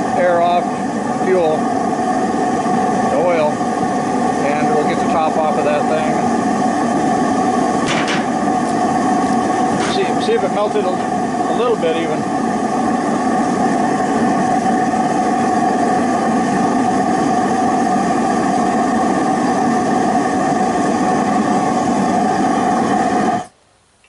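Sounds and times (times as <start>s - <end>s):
furnace burner droning: 0.0s - 24.0s.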